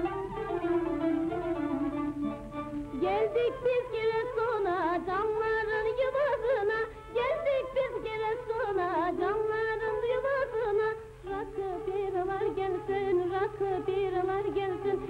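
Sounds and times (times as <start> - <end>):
woman singing folk song: 2.8 - 15.0.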